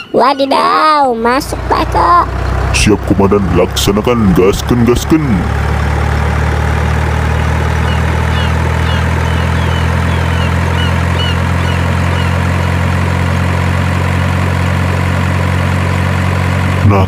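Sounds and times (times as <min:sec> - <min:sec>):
toy truck engine drone: 0:00.6 - 0:17.0.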